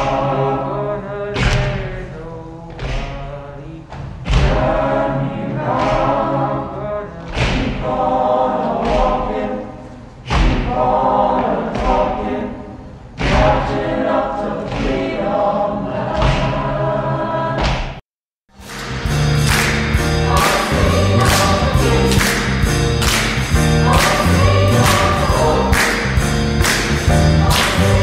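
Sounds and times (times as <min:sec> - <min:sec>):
choir singing chords: 0:00.0 - 0:02.6, 0:03.6 - 0:18.0, 0:18.6 - 0:28.0.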